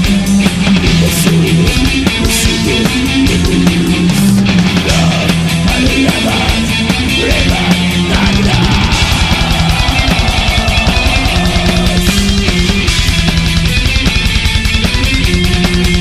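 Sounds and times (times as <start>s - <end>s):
distorted electric guitar: 0.0s - 16.0s
fast drumming: 0.0s - 16.0s.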